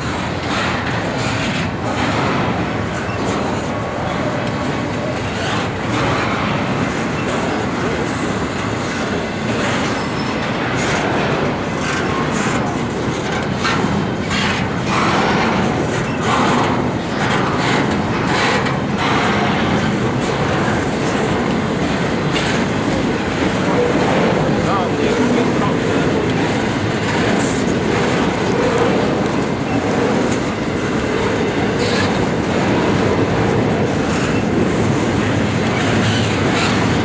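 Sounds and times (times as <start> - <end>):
freight train rolling past: 0.0 - 37.0
wheels clicking over rail joints: 0.0 - 37.0.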